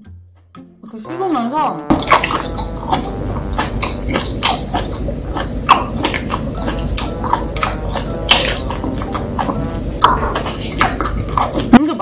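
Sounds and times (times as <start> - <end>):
person chewing wet mouth sounds: 1.9 - 12.0.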